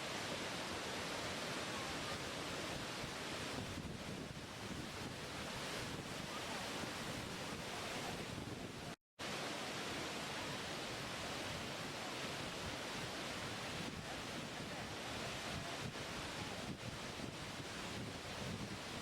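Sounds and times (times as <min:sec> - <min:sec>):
waterfall rushing: 0:00.0 - 0:03.8, 0:04.4 - 0:19.0.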